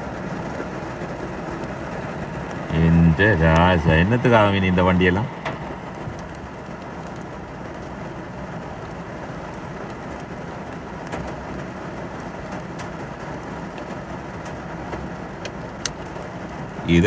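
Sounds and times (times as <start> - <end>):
motor vehicle rumble: 0.0 - 17.0
rain hissing: 0.0 - 17.0.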